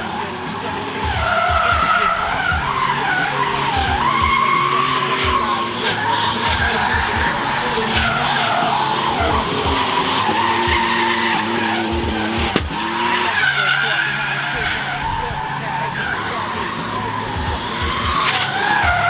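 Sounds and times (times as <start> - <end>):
car engines at high revs: 0.0 - 19.0
tyres sliding on tarmac: 0.0 - 19.0.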